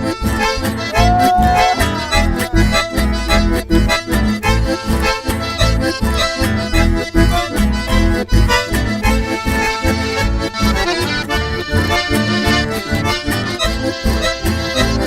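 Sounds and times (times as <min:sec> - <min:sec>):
accordion melody: 0:00.0 - 0:15.0
pulsing bass rhythm: 0:00.0 - 0:15.0.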